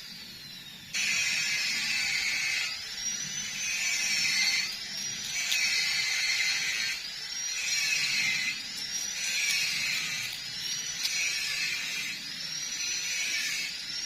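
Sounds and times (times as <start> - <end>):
small electric tool whirring: 0.0 - 14.0.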